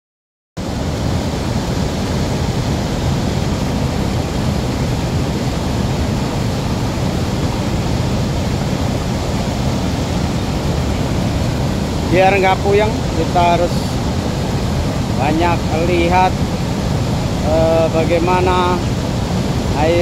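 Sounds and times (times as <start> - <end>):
water rushing over a weir: 0.6 - 20.0.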